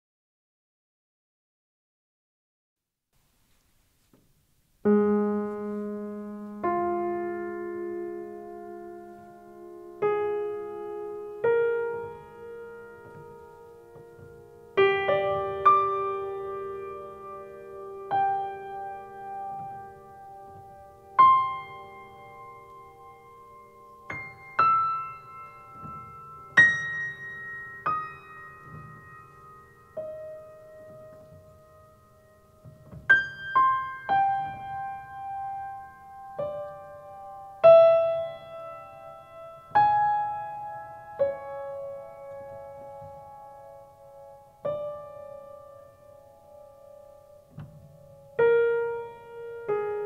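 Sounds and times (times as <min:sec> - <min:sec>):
grand piano played slowly: 0:04.3 - 0:50.0.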